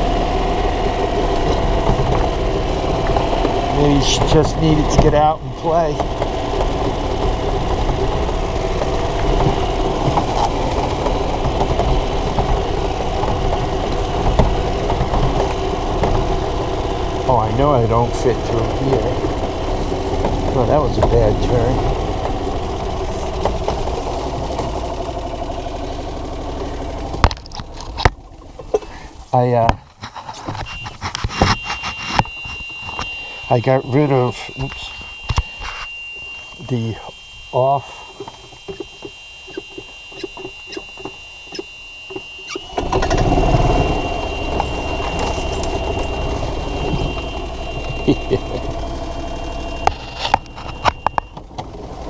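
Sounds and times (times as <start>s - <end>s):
golf cart engine running: 0.0s - 52.0s.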